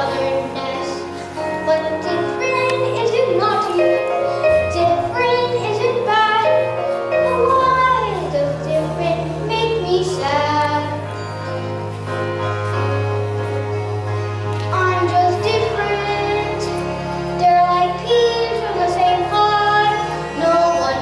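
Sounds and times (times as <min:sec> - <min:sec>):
children singing: 0:00.0 - 0:11.4, 0:14.7 - 0:21.0
held bass notes: 0:00.0 - 0:21.0
instrumental accompaniment: 0:00.0 - 0:21.0.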